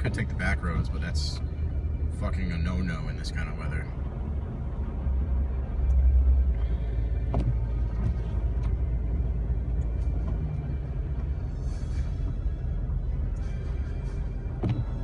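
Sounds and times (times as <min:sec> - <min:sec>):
vehicle rumble on snowy road: 0:00.0 - 0:15.0.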